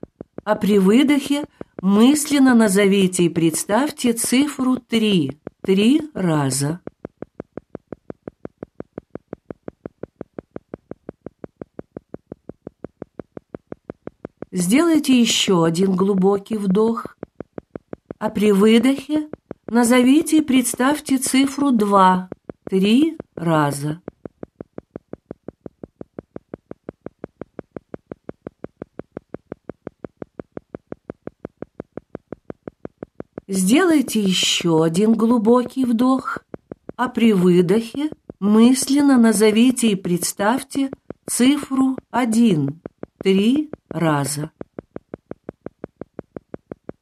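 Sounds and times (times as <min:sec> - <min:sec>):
soft even pulses: 0:00.0 - 0:47.0.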